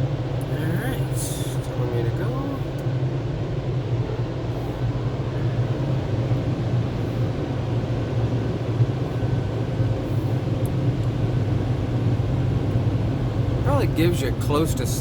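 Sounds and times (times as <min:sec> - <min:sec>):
car wash rushing noise: 0:00.0 - 0:15.0.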